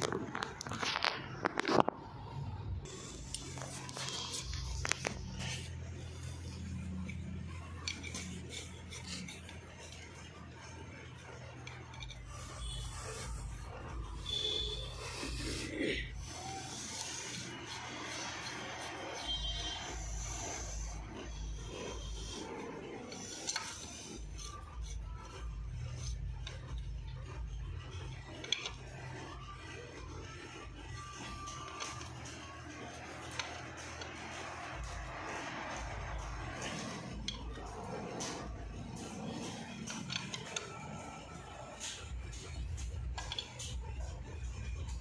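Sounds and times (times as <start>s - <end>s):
hand tools scraping on metal: 2.9s - 45.0s.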